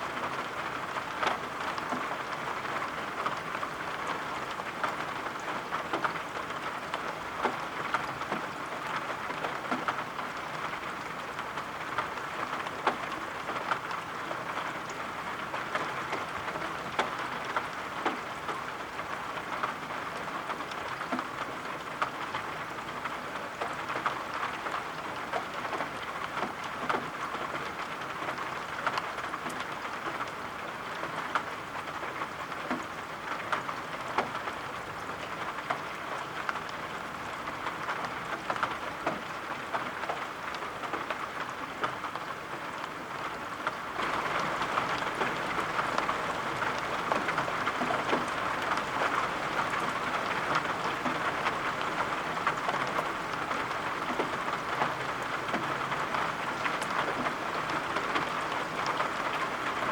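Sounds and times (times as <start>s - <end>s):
rain ticks: 0.0s - 59.9s
steady rain: 0.0s - 59.9s.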